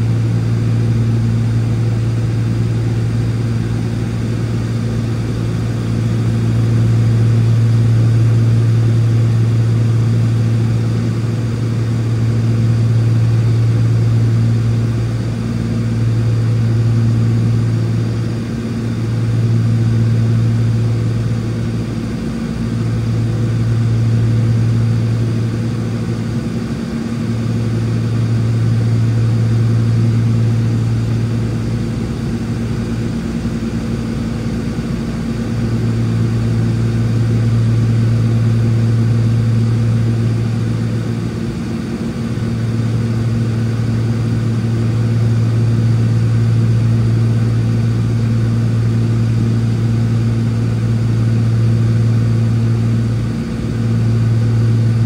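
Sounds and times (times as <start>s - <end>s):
aircraft engines and propellers droning: 0.0s - 55.0s.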